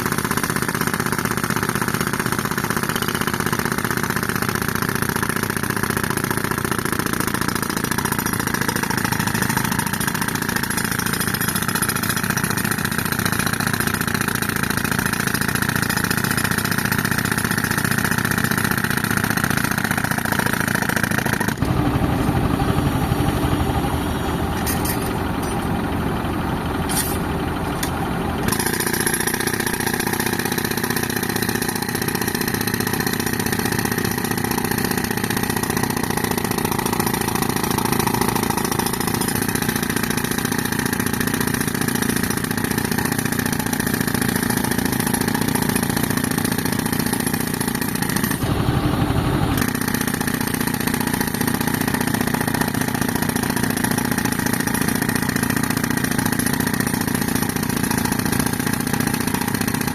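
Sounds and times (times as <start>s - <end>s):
tractor engine running: 0.0s - 59.9s
pneumatic breaker rattling: 0.2s - 59.9s.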